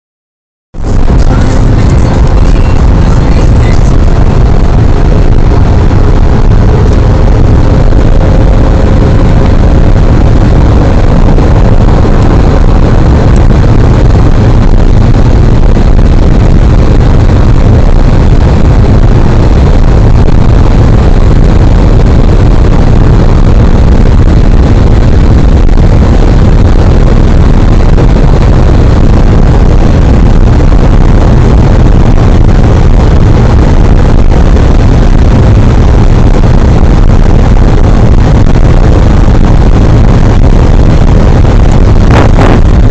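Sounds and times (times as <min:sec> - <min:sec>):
car engine pulling at high revs: 0:00.7 - 0:42.9
wind and tyre roar: 0:00.7 - 0:42.9.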